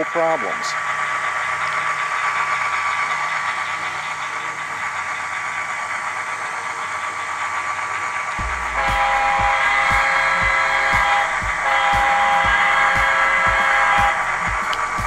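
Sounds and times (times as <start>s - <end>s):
model locomotive engine running: 0.0s - 15.0s.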